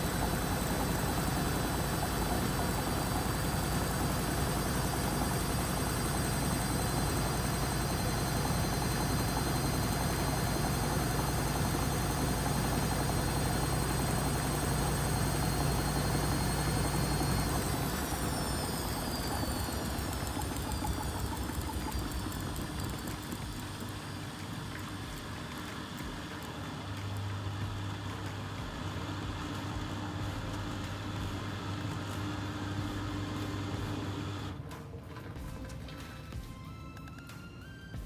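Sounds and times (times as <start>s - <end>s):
washing machine spinning: 0.0s - 36.6s.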